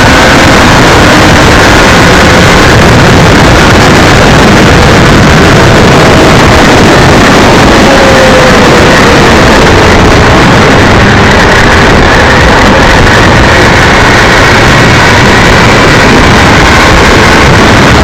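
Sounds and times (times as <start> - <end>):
motorcycle engine drone: 0.0 - 18.0
wind rush on microphone: 0.0 - 18.0.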